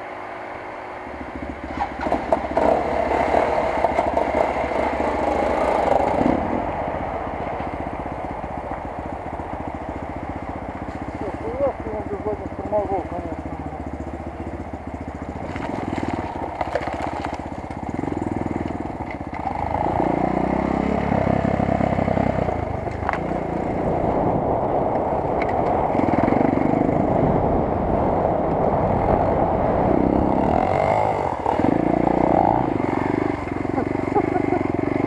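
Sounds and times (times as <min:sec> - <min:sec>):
motorcycle engine revving: 0:01.2 - 0:35.0.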